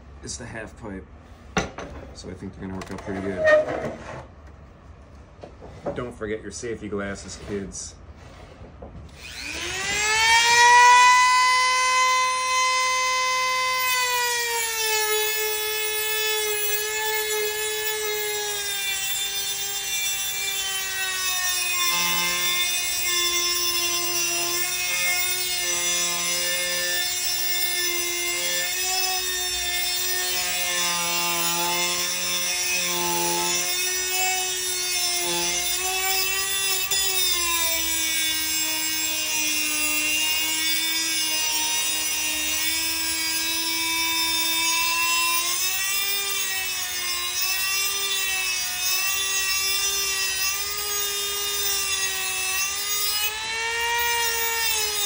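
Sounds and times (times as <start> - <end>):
rotary tool whining: 2.8 - 4.2, 9.1 - 55.0
cut-off wheel cutting metal: 9.2 - 55.0.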